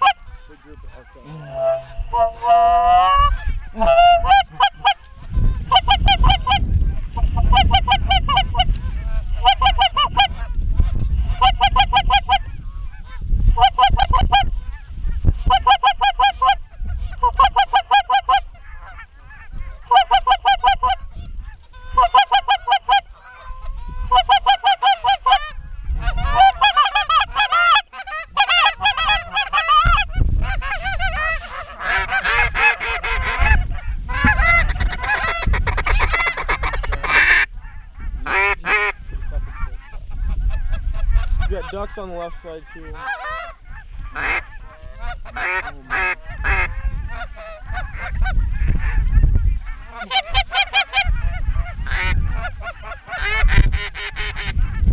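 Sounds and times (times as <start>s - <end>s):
geese honking: 0.0s - 54.9s
wind rumble on microphone: 0.0s - 54.9s.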